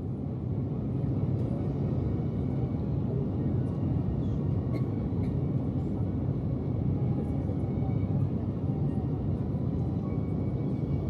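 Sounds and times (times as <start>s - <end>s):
jet engine low rumble in cabin: 0.0s - 11.0s.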